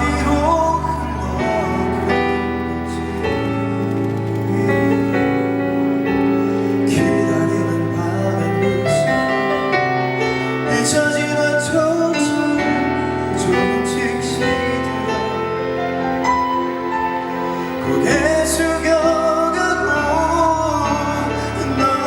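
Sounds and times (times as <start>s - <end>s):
slow piano ballad: 0.0s - 22.0s.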